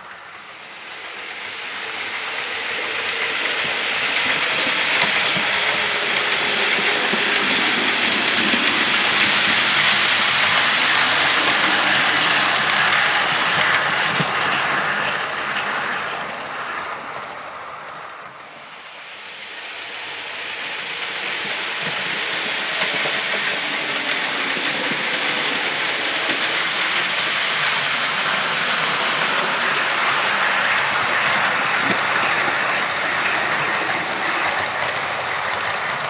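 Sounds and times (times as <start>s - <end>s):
model train running on track: 0.0s - 36.0s.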